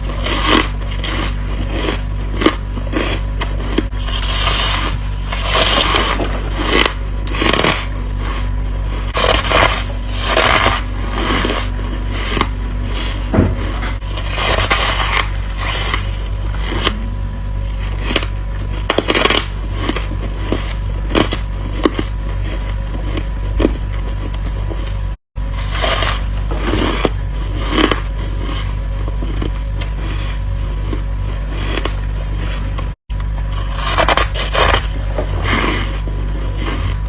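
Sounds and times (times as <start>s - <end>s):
person chewing frost crunches: 0.0s - 37.0s
steady low hum: 0.0s - 37.0s.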